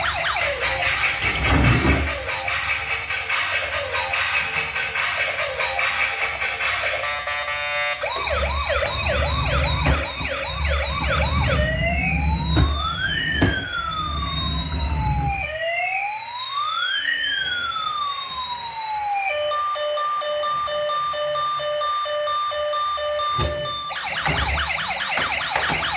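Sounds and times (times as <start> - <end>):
toy electronic siren: 0.0 - 25.9.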